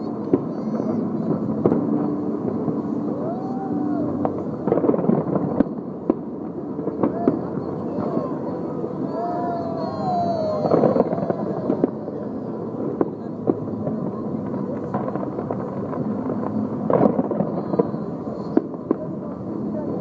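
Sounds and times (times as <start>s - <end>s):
firework whistling: 0.0s - 13.9s, 14.9s - 19.2s
fireworks rumble and bangs: 0.0s - 20.0s.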